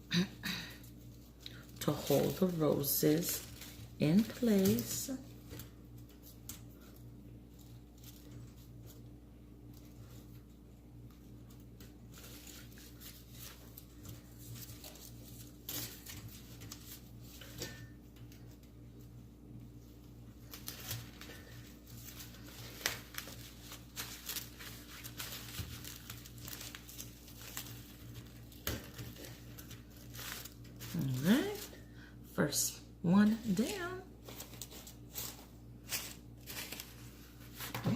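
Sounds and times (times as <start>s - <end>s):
rustling and crinkling: 0.1s - 32.0s, 32.7s - 37.9s.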